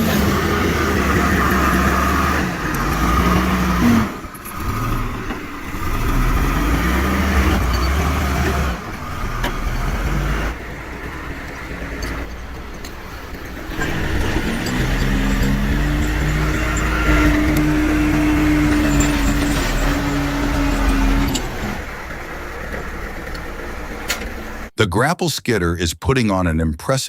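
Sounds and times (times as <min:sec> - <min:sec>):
diesel engines pulling under load: 0:00.0 - 0:24.8.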